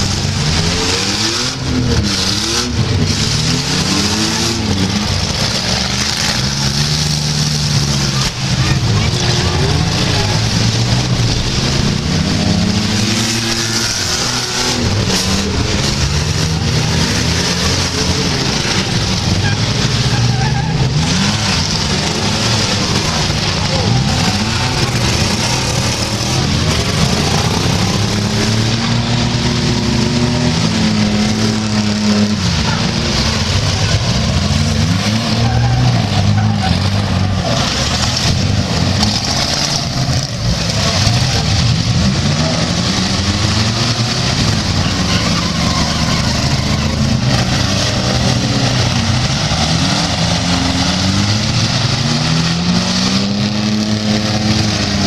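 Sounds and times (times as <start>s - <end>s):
engines revving: 0.0s - 55.0s.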